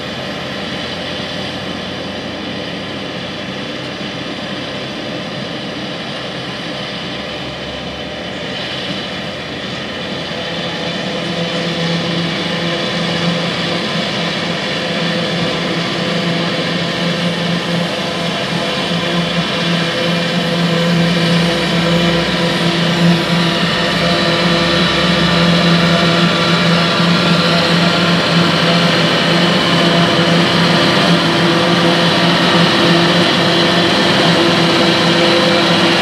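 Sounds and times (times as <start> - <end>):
tractor and harvester droning: 0.0 - 36.0.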